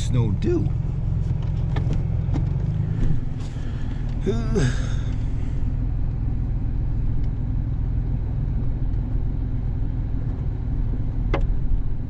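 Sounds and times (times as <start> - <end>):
car engine rumble from inside cabin: 0.0 - 12.0.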